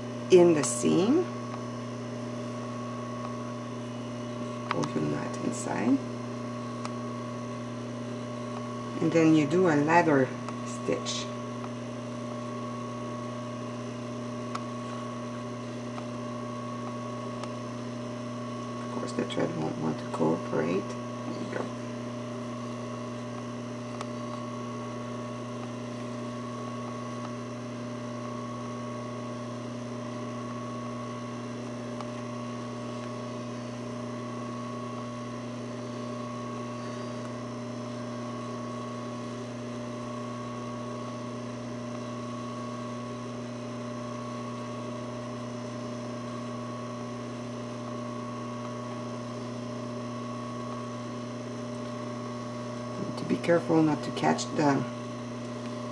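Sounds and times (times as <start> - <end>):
electrical hum: 0.0 - 55.9.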